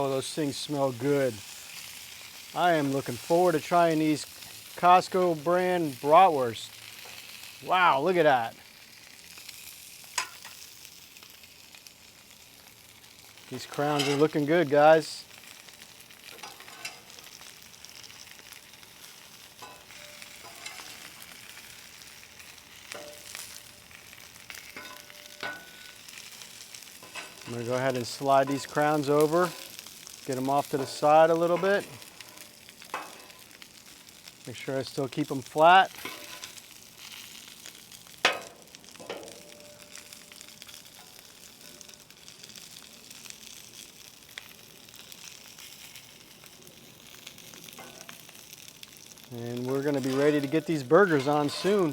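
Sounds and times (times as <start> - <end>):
food sizzling on griddle: 0.0 - 51.9.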